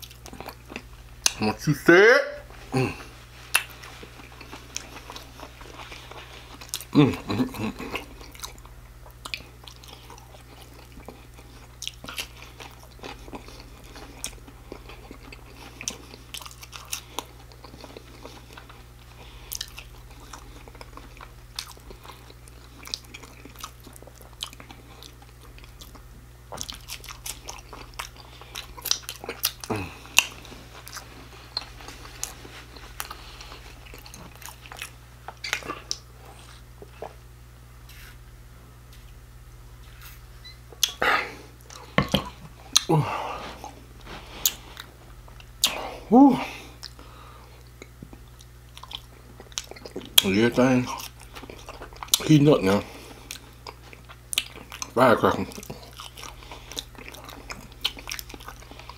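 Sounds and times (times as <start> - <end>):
person chewing crunchy food: 0.0 - 1.6, 2.5 - 37.2, 39.8 - 58.9.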